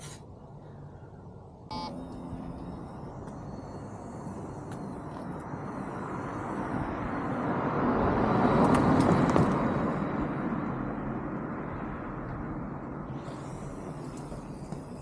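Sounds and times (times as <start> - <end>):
vehicle passing: 0.0 - 15.0.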